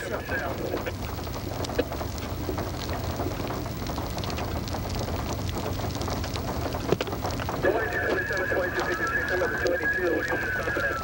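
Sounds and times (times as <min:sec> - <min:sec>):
low steady hum: 0:00.0 - 0:11.0
rain with crackling ticks: 0:00.0 - 0:11.0
wind: 0:00.0 - 0:11.0.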